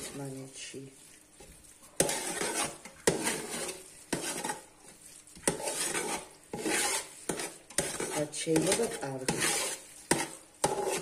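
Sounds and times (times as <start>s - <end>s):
spoon scraping through rice: 0.0s - 11.0s.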